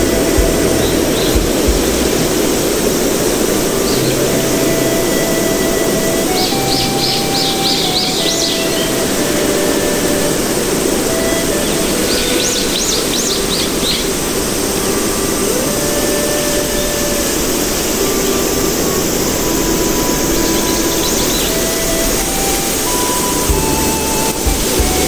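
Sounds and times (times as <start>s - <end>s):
slow held notes: 0.0s - 25.0s
steady rushing noise: 0.0s - 25.0s.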